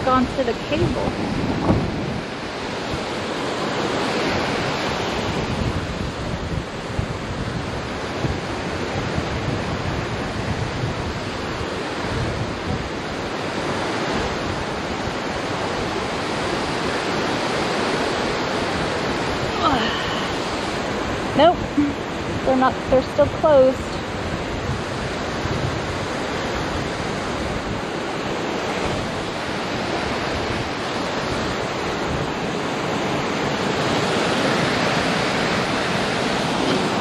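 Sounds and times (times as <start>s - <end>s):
turbulent water: 0.0s - 37.0s
wind gusting on microphone: 0.0s - 37.0s.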